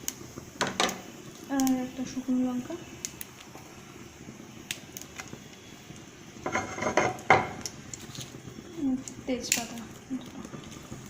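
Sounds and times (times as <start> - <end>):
spices frying in hot oil: 0.0 - 11.0.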